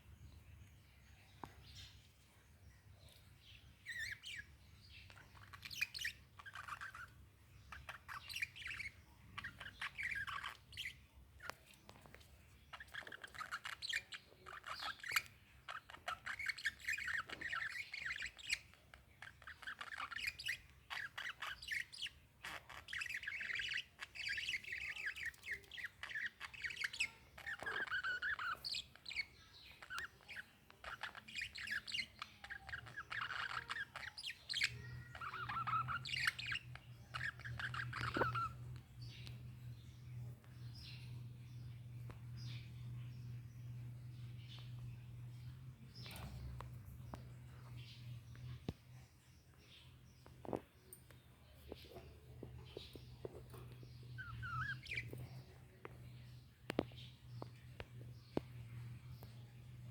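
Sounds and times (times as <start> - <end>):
lovebirds chirping and squawking: 0.0 - 59.9.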